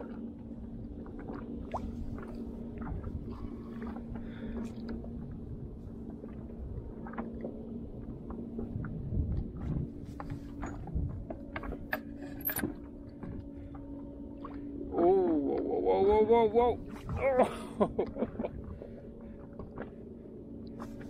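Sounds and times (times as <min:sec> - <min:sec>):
steady low hum: 0:00.0 - 0:21.0
water lapping against boat hull: 0:00.0 - 0:21.0.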